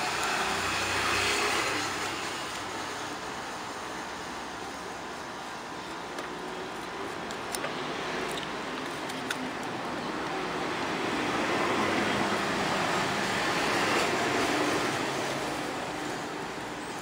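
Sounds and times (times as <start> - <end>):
passing vehicle rumble and hiss: 0.0 - 17.0.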